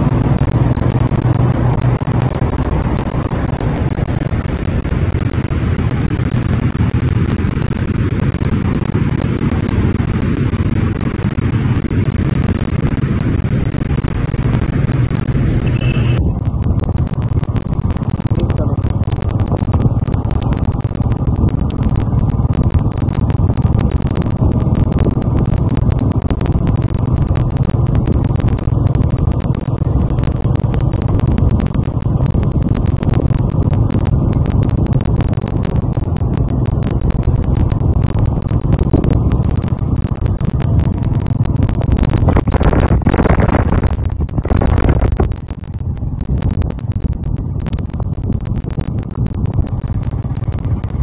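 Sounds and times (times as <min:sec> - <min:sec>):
motorcycle engine rumble: 0:00.0 - 0:51.0
wind on microphone: 0:00.0 - 0:51.0.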